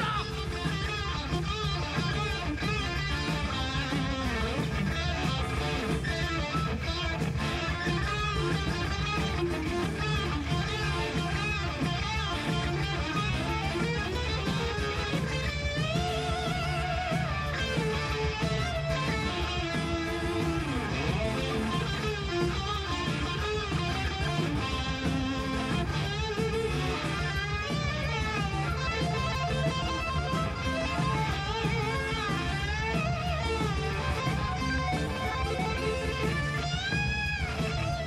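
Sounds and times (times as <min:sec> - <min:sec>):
electric guitar lead: 0:00.0 - 0:38.0
live rock band playing: 0:00.0 - 0:38.0.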